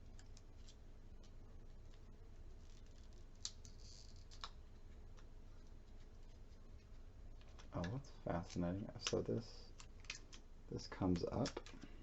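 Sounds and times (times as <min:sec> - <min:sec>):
protective film being peeled: 0:00.1 - 0:11.7.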